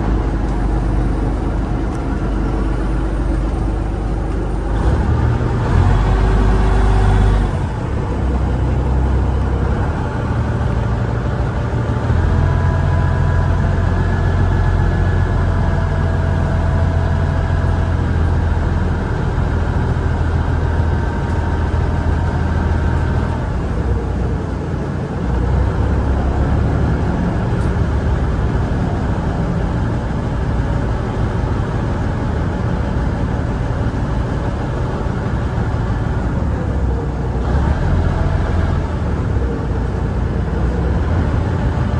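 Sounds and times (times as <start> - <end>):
engine rumbling: 0.0 - 41.9.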